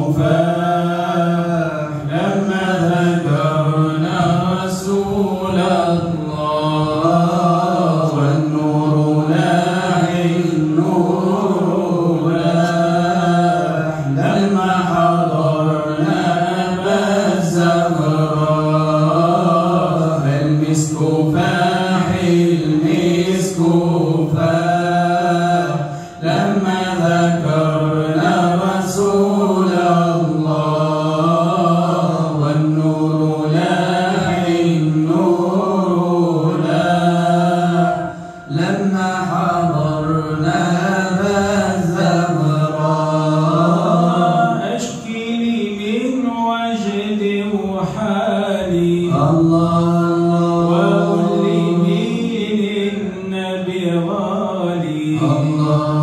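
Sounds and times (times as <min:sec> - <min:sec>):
man chanting unaccompanied: 0:00.0 - 0:56.0.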